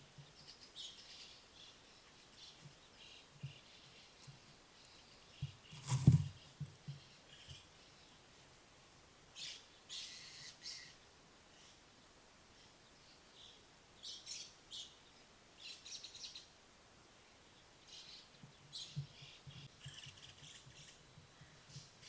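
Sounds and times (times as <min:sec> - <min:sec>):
small birds chirping: 0:00.0 - 0:08.4, 0:09.3 - 0:16.6, 0:17.2 - 0:22.0.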